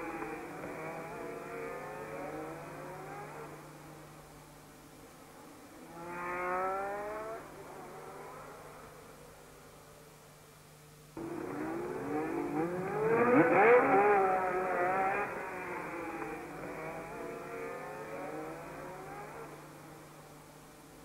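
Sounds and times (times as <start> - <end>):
racing car engines passing: 0.0 - 4.2, 5.4 - 9.1, 11.2 - 20.4.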